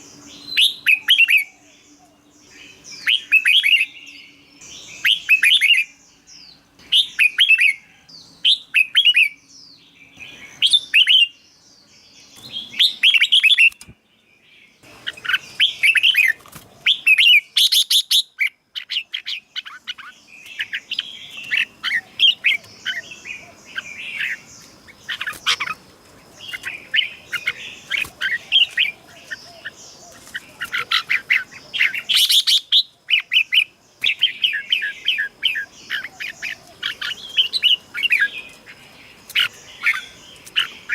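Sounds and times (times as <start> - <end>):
birds singing warbling phrases: 0.0 - 40.9.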